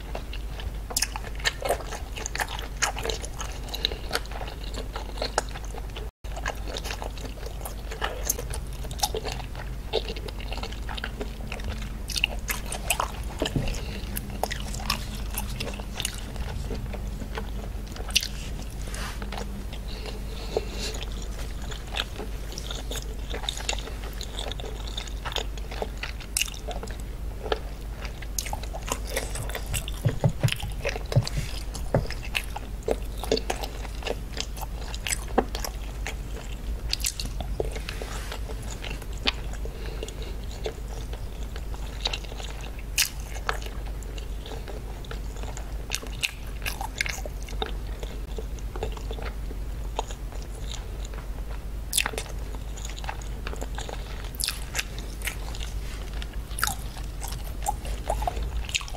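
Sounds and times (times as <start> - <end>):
steady low hum: 0.0 - 58.9
wet chewing clicks and smacks: 0.1 - 58.9.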